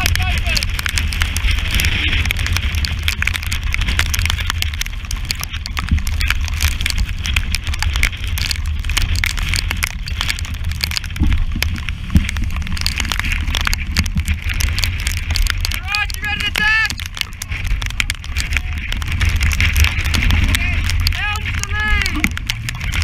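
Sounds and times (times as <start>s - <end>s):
water splash: 0.0s - 23.0s
wind buffeting microphone: 0.0s - 23.0s.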